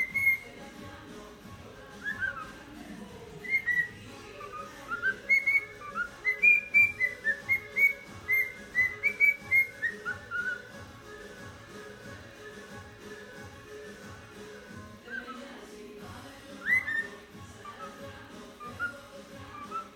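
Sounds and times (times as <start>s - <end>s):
cockatiel whistling a tune: 0.0s - 0.6s, 1.9s - 2.6s, 3.4s - 15.5s, 16.5s - 19.9s.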